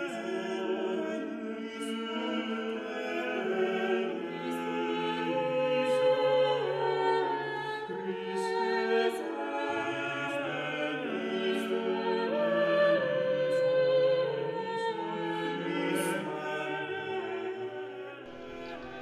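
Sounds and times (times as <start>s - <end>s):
choir singing slow chords: 0.0s - 19.0s.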